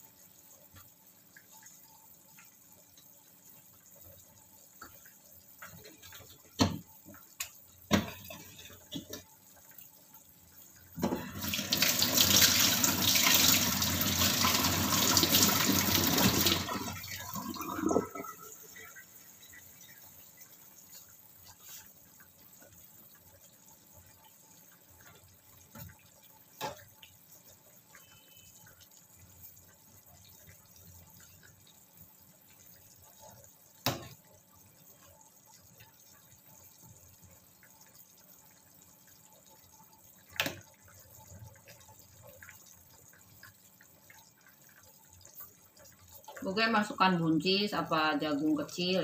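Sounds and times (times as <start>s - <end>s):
soup bubbling in saucepan: 0.0s - 49.0s.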